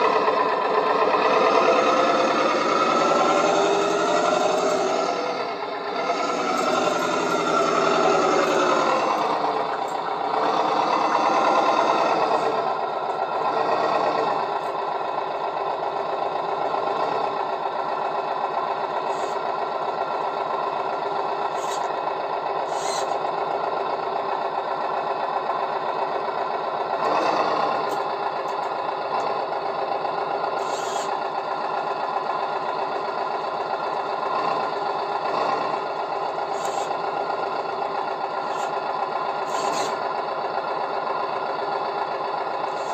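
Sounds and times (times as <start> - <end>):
electric gear motor whining: 0.0 - 42.9.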